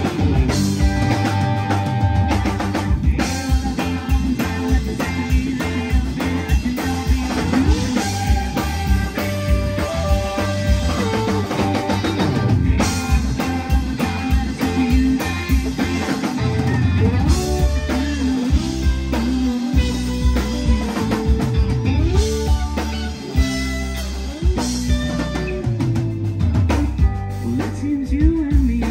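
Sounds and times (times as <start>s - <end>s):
drum kit: 0.0s - 28.9s
electric guitars: 0.0s - 28.9s
keyboard: 0.0s - 28.9s.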